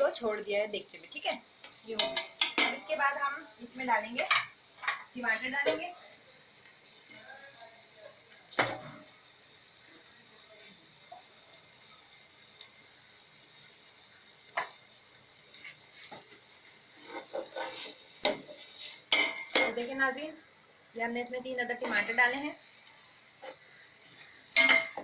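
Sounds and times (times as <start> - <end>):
chicken frying in oil: 0.0 - 25.0.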